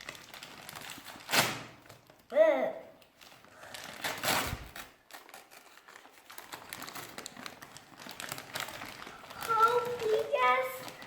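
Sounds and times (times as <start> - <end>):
wrapping paper tearing and crinkling: 0.0 - 11.0.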